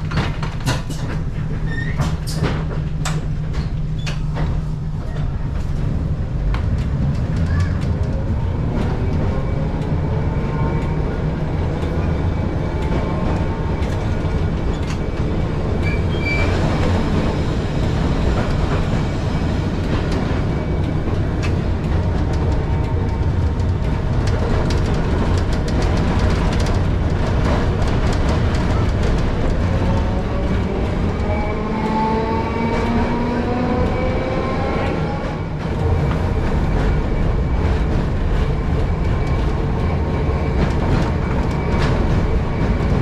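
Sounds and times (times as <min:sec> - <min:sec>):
clicks and clatter over track: 0:00.0 - 0:43.0
tram rumbling on rails: 0:00.0 - 0:43.0.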